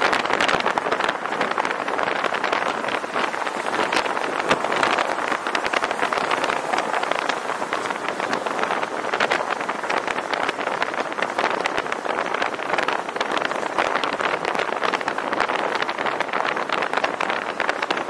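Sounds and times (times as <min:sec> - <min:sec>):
car road noise: 0:00.0 - 0:18.0
wind rushing over microphone: 0:00.0 - 0:18.0.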